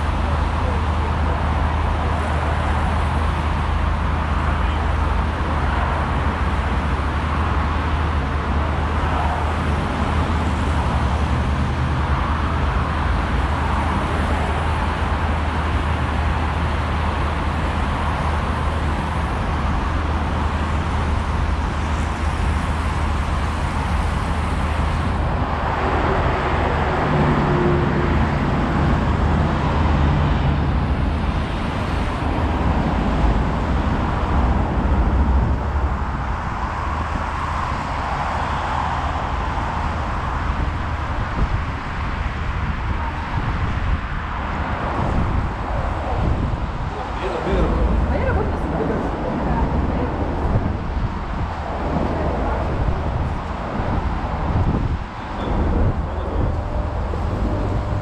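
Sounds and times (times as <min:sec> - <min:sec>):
road traffic rumble: 0:00.0 - 0:58.0
vehicle engine hum: 0:00.0 - 0:58.0.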